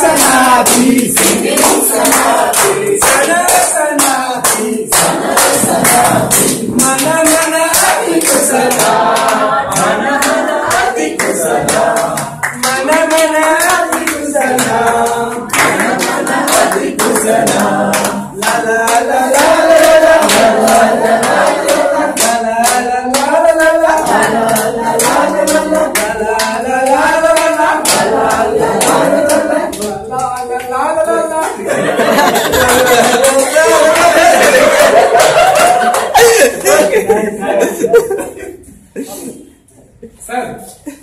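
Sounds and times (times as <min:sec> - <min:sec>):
hands clapping: 0:00.0 - 0:36.9
people singing in unison: 0:00.0 - 0:38.0.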